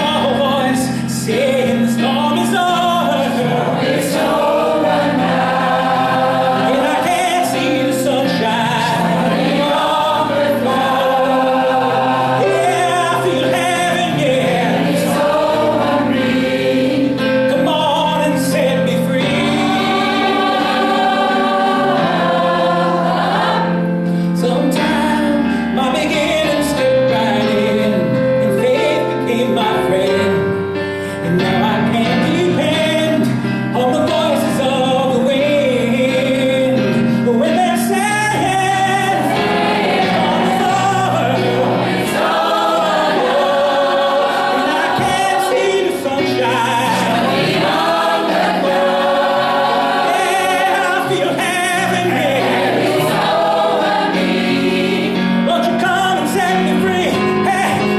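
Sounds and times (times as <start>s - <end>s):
choir singing gospel song: 0.0s - 57.9s
instrumental accompaniment: 0.0s - 57.9s.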